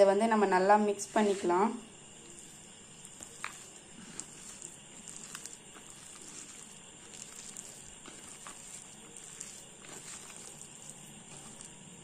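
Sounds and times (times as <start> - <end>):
hand mashing potatoes in bowl: 2.2 - 12.0.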